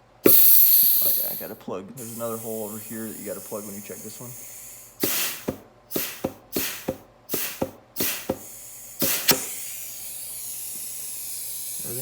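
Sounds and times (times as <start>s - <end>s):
compressed air blasts: 0.0s - 12.0s.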